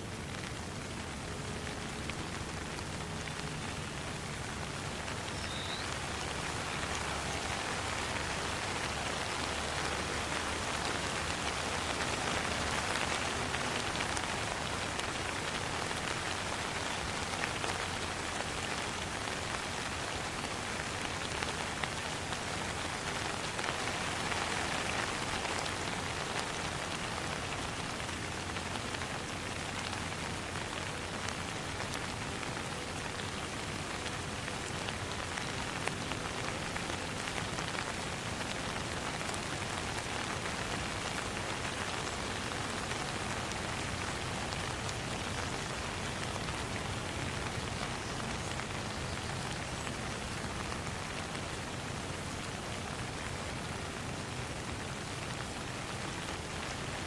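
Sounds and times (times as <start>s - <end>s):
rain falling on pond: 0.0s - 57.0s.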